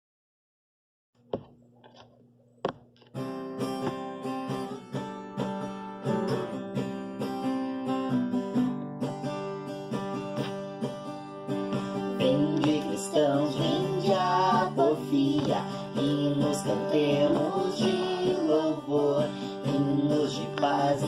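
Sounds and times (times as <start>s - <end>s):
acoustic guitar strumming: 3.0s - 21.0s.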